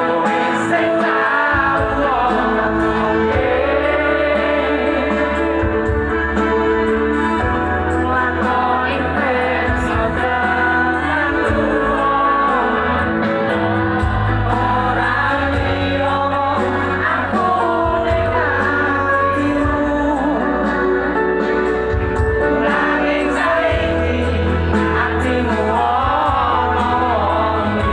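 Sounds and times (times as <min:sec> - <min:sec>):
person singing: 0:00.0 - 0:21.7, 0:22.4 - 0:27.9
live band over loud pa: 0:00.0 - 0:27.9.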